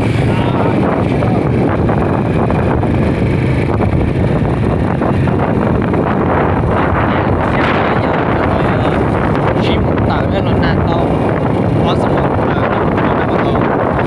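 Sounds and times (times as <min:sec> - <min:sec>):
motorbike engine running: 0:00.0 - 0:14.0
wind buffeting microphone: 0:00.0 - 0:14.0.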